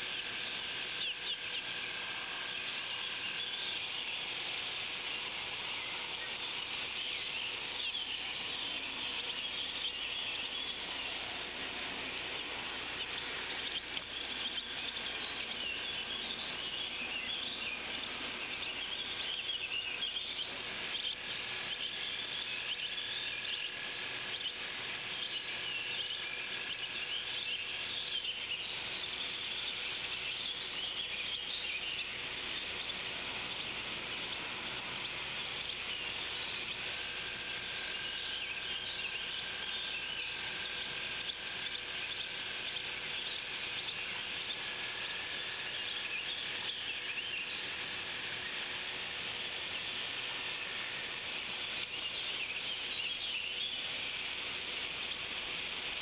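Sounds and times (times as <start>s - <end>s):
songbirds chirping and singing: 0.0s - 56.0s
thin steady tone: 0.0s - 56.0s.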